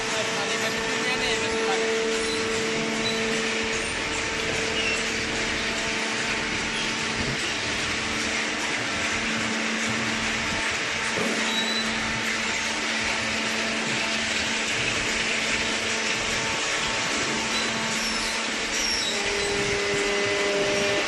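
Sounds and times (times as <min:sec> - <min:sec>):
machinery hum and hiss: 0:00.0 - 0:21.0
steady machine tone: 0:00.0 - 0:21.0.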